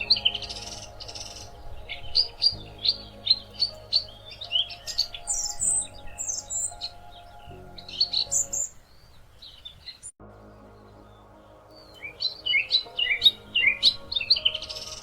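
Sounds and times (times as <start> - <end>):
soft background music: 0.0 - 9.1, 10.2 - 15.0
songbirds chirping: 0.0 - 15.0.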